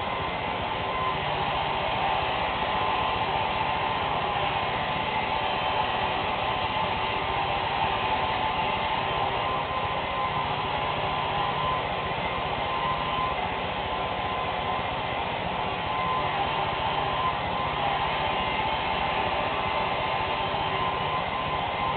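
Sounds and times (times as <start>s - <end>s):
hair dryer blowing: 0.0s - 21.9s.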